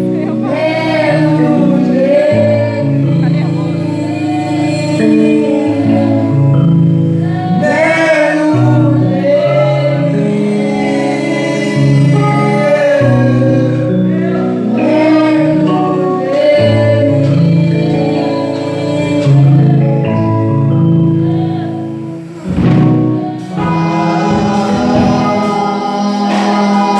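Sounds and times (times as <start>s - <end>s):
held chords: 0.0s - 26.9s
voices singing gospel song: 0.0s - 26.9s.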